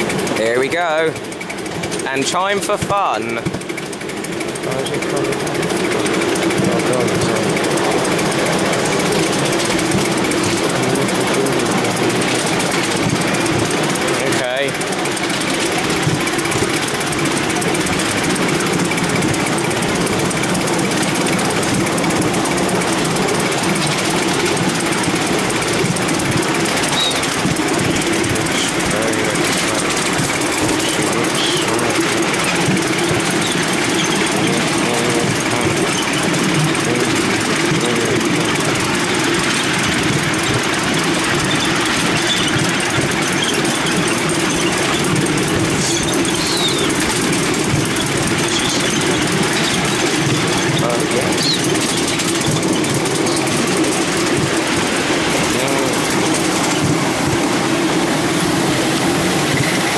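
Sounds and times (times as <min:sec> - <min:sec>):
miniature steam locomotive working: 0:00.0 - 0:59.9
train wheels rattling on track: 0:00.0 - 0:59.9.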